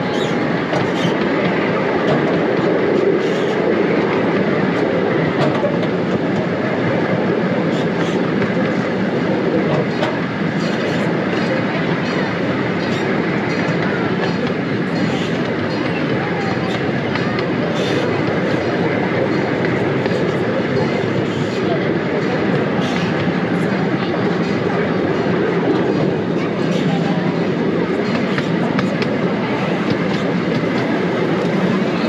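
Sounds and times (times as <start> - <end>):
train cars rumbling on track: 0.0 - 32.0
wheels clicking over rails: 0.0 - 32.0.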